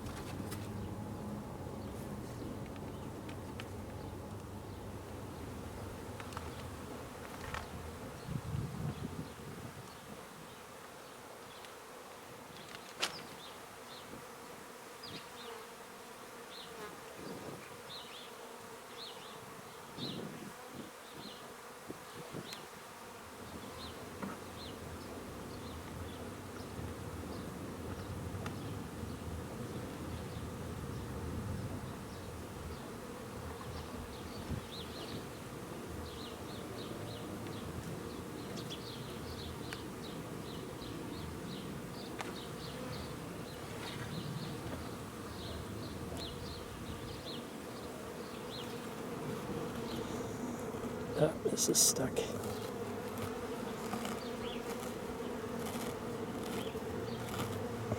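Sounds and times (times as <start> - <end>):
bees buzzing: 0.0 - 12.6, 13.4 - 57.9.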